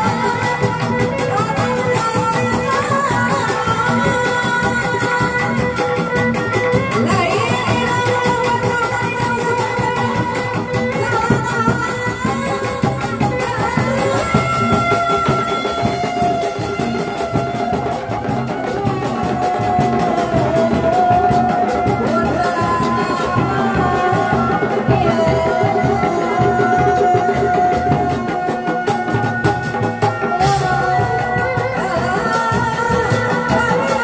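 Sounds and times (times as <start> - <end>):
drum ensemble playing: 0.0 - 34.0.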